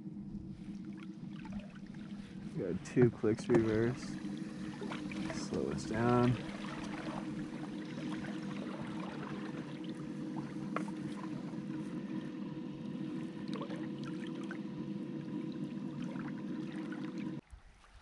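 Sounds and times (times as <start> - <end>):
electric trolling motor humming: 0.0 - 17.4
light water sounds: 0.4 - 18.0.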